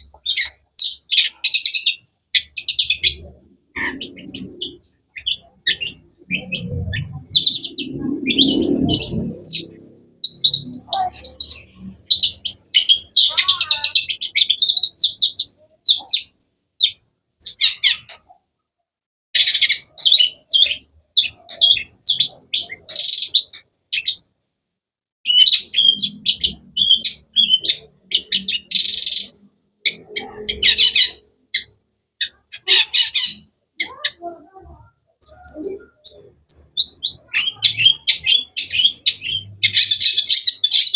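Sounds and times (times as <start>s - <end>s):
bird chirping and trilling: 0.0s - 18.4s, 19.4s - 24.2s, 25.3s - 40.9s.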